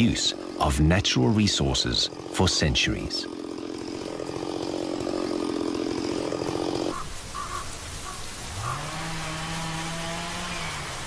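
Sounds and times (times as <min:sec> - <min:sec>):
chainsaw running: 0:00.0 - 0:07.2, 0:08.5 - 0:11.0.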